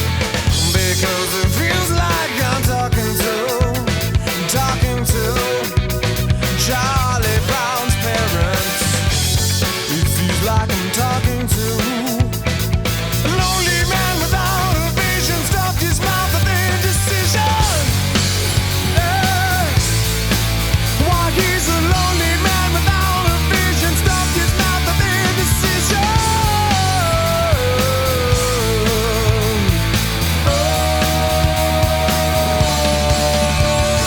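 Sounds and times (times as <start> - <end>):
bending lead melody: 0.0 - 34.0
drum kit: 0.0 - 34.0
steady bass: 0.0 - 34.0.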